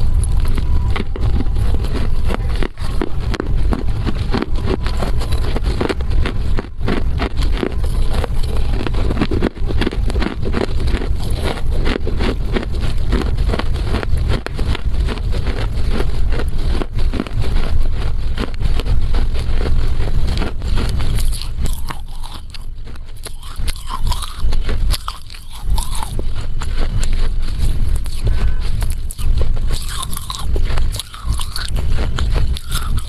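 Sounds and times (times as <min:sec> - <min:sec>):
crunching and chewing clay: 0:00.0 - 0:33.0
heavy low rumble: 0:00.0 - 0:33.0.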